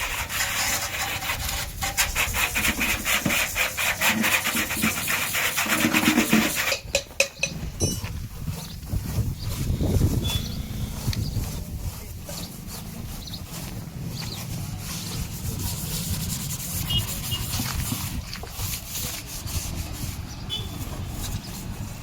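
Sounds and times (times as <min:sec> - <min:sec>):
hands rubbing and scraping metal drum: 0:00.0 - 0:22.0.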